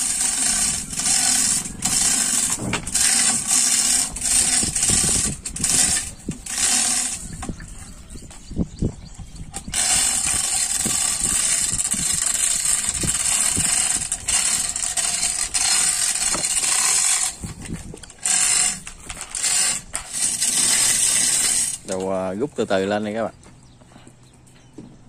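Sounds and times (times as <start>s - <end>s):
chain and ratchet clanks: 0.0s - 7.9s, 9.5s - 22.2s
chain hoist chain rattling: 0.0s - 7.9s, 9.5s - 22.3s.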